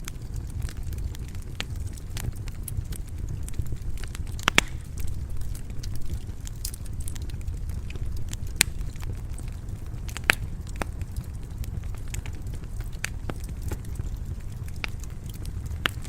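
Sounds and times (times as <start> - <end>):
fireplace fire crackling: 0.0 - 16.0
loud fire pops: 0.0 - 16.0.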